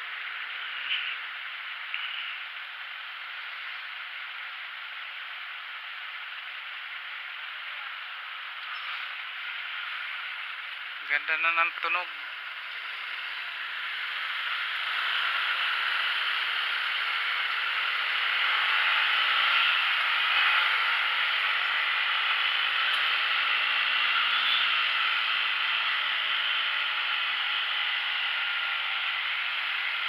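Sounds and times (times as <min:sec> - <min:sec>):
motorcycle engine riding: 0:00.0 - 0:30.0.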